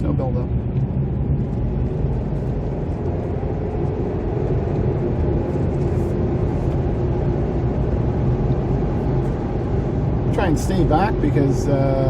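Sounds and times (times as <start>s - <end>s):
tyre and engine rumble: 0.0s - 12.0s.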